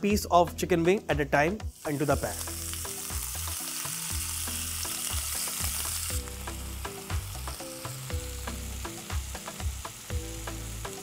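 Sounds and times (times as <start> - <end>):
background music with plucked melody: 0.0 - 11.0
chicken sizzling in hot oil: 1.6 - 11.0.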